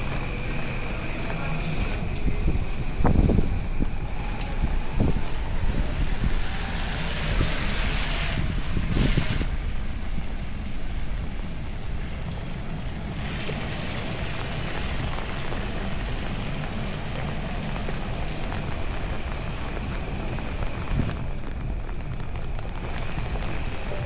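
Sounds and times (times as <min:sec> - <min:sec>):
heavy rain hiss: 0:00.0 - 0:21.3, 0:22.5 - 0:24.0
wind buffeting microphone: 0:00.0 - 0:24.0.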